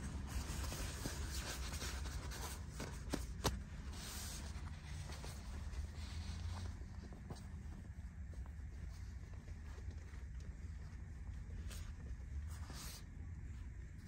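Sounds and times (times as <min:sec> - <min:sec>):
steady low rumble: 0:00.0 - 0:14.0
kittens scratching on fabric: 0:00.1 - 0:14.0.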